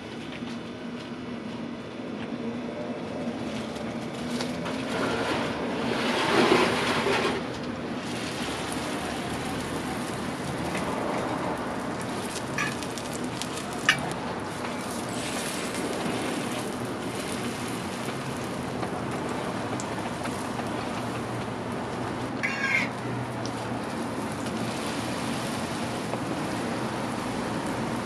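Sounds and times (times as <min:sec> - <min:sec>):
dough sizzling in hot oil: 0:03.4 - 0:28.0.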